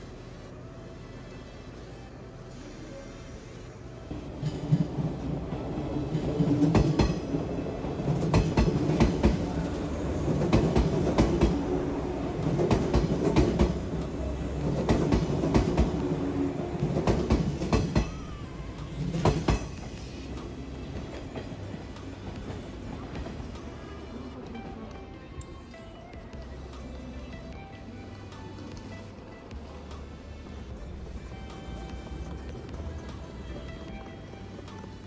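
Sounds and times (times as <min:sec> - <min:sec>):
train rumble: 0:03.4 - 0:35.0.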